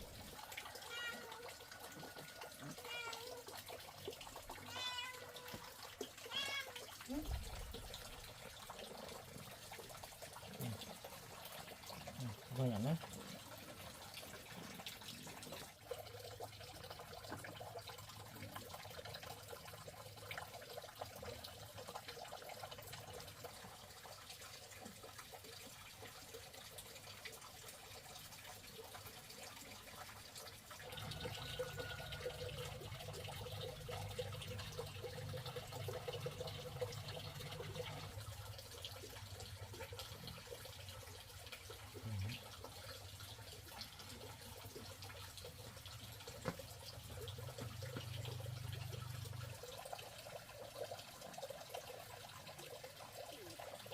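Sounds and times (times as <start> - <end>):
water trickling from a tap: 0.0 - 53.9.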